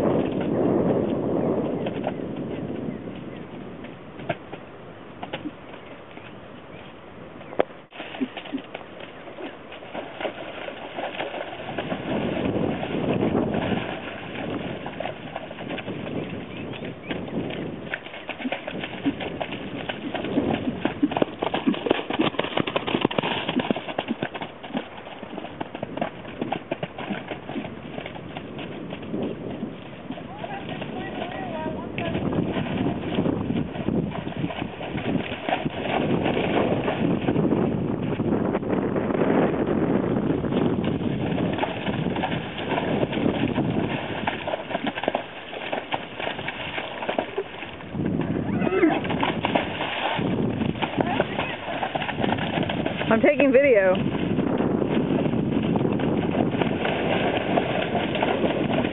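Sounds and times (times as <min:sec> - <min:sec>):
hooves splashing through mud: 0:00.0 - 0:58.9.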